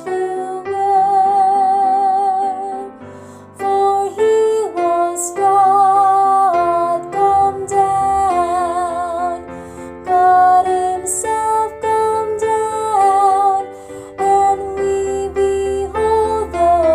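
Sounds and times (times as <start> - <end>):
slow gentle melody with vibrato: 0.0 - 16.9.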